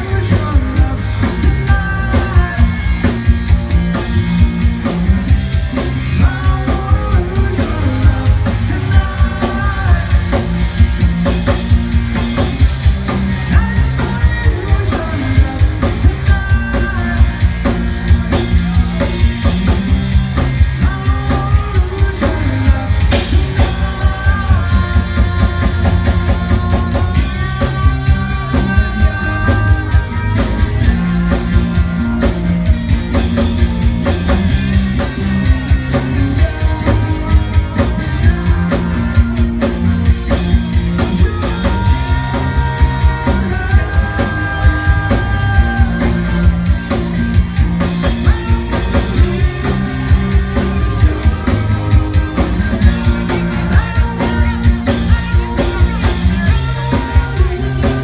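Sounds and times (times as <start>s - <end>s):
bass guitar: 0.0s - 58.0s
drum kit beat: 0.0s - 58.0s
electric guitars: 0.0s - 58.0s.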